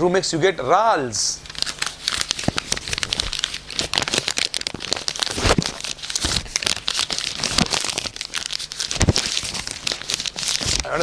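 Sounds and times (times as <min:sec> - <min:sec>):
paper crumpling: 0:01.4 - 0:11.0.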